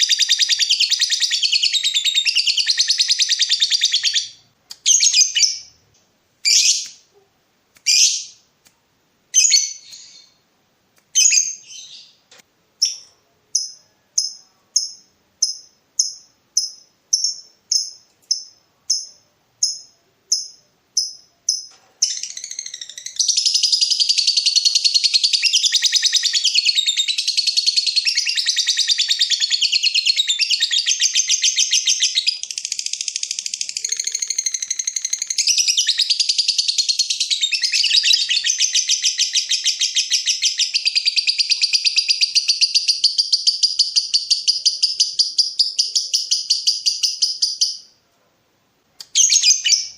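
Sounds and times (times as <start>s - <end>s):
lovebird calling and chirping: 0.0s - 7.2s, 7.8s - 8.4s, 9.3s - 10.4s, 11.1s - 47.9s, 49.0s - 49.9s.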